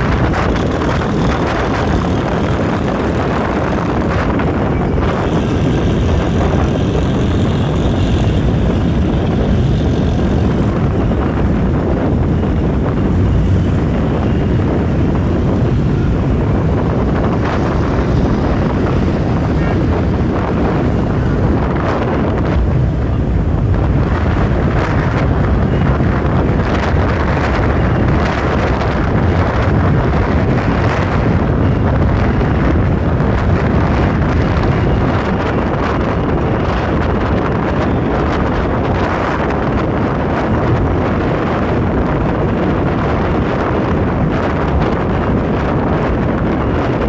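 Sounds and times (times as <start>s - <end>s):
vehicle rumbling on road: 0.0s - 47.0s
wind buffeting microphone: 0.0s - 47.0s.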